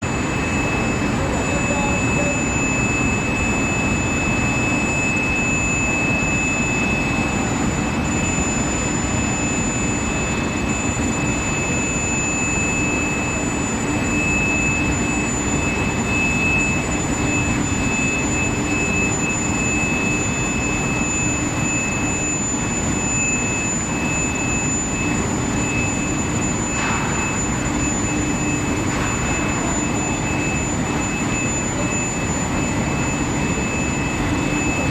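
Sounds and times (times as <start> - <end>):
high-pitched machine whines: 0.0 - 34.9
steady machinery noise: 0.0 - 34.9.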